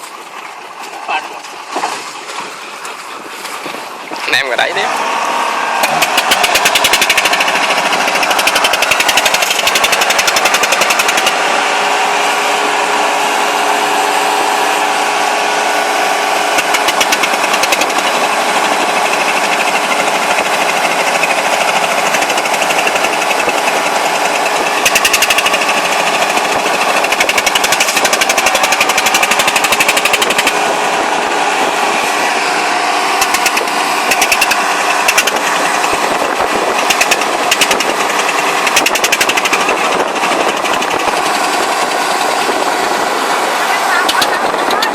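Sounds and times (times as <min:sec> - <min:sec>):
harvester diesel engine clattering: 0:00.0 - 0:44.9.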